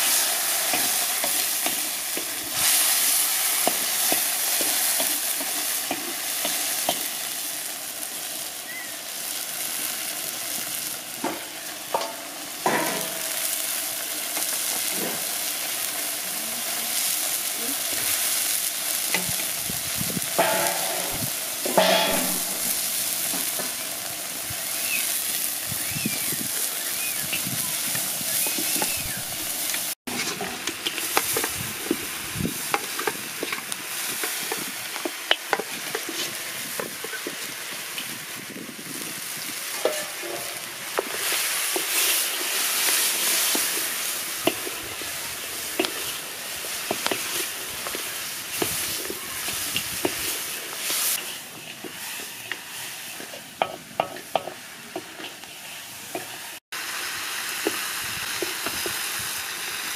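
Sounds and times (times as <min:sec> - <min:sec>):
meat sizzling in wok: 0:00.0 - 0:59.9.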